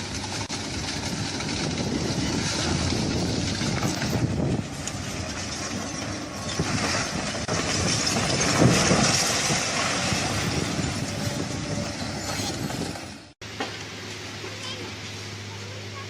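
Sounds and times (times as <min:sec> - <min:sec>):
heavy machinery running: 0:00.0 - 0:16.0.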